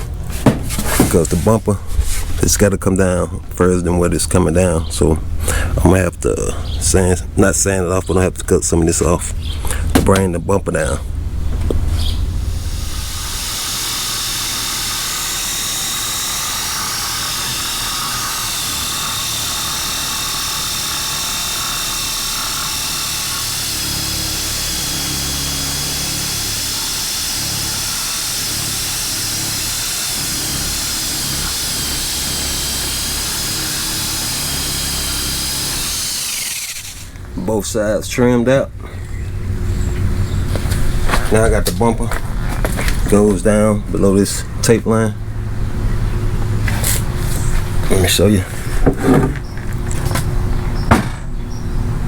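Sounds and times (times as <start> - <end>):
power cutting tool whining: 0.0 - 51.3.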